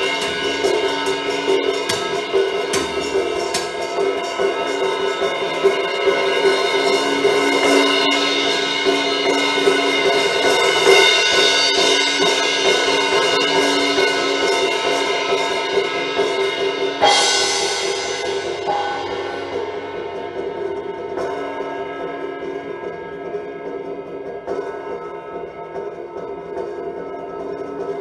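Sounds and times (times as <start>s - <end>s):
cymbal crash: 0.0s - 22.8s.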